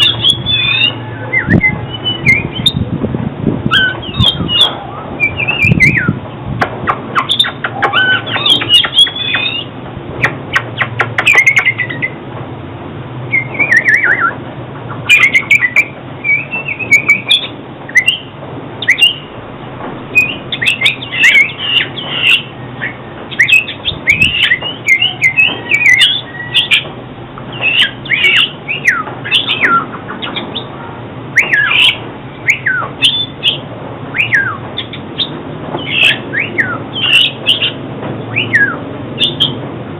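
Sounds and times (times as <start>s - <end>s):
bird singing whistled phrases: 0.0s - 2.8s, 3.7s - 6.2s, 7.2s - 12.2s, 13.3s - 14.4s, 15.0s - 19.3s, 20.1s - 26.8s, 27.5s - 30.7s, 31.3s - 39.6s.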